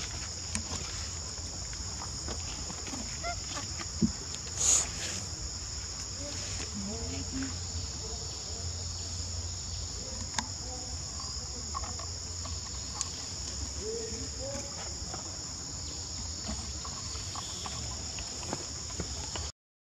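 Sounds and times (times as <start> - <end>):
insects droning: 0.0 - 19.5.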